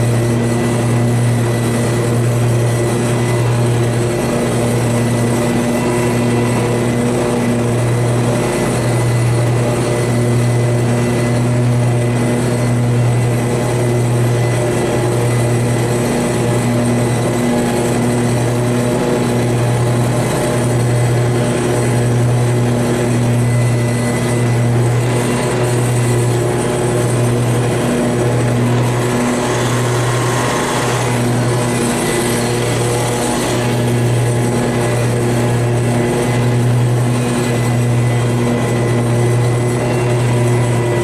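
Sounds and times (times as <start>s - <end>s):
riding lawn mower engine humming: 0.0s - 41.0s.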